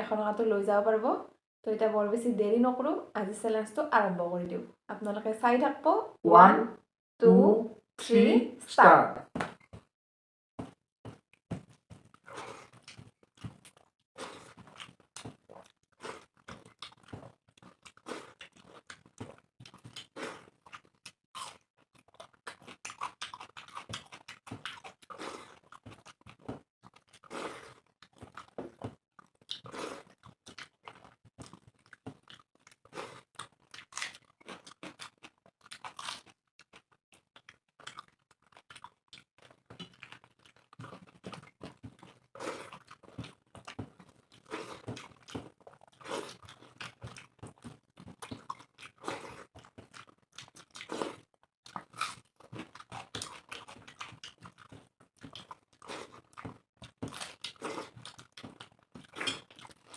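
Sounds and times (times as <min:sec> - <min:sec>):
people chewing with wet smacks: 0:10.6 - 0:59.9.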